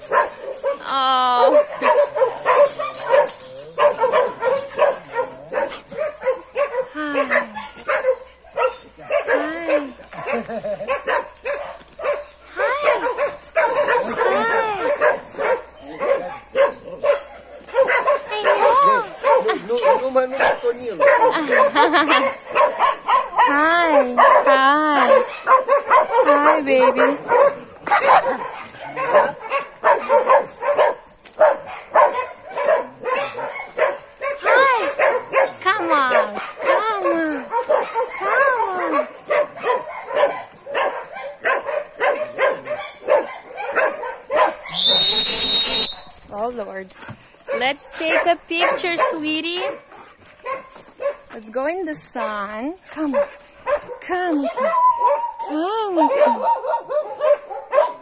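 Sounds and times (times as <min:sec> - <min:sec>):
dog drawn-out cries: 0:00.0 - 0:51.2, 0:53.0 - 0:58.0
dogs barking: 0:00.0 - 0:51.4, 0:52.0 - 0:58.0.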